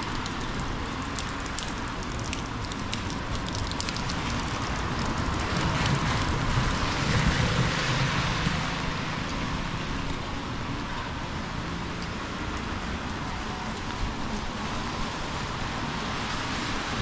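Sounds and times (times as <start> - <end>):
heavy rain on street: 0.0 - 17.0
low rumble of traffic: 0.0 - 17.0.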